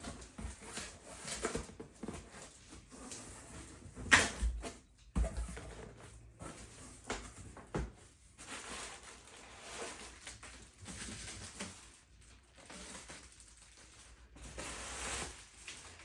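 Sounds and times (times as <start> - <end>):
packaging rustling and scraping: 0.0 - 16.0.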